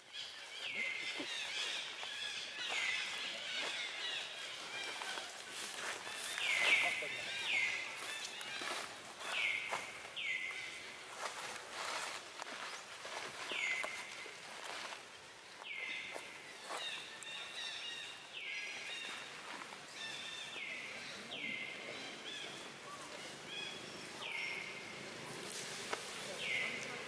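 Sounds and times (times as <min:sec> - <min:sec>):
rustling in dry leaf litter: 0:00.2 - 0:18.0, 0:22.0 - 0:27.0.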